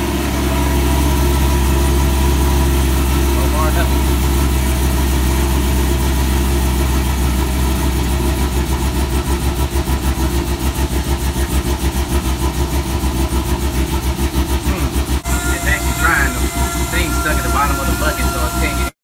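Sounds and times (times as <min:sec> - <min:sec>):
low steady car hum: 0:00.0 - 0:19.0
pump pulsing rapidly: 0:00.0 - 0:19.0.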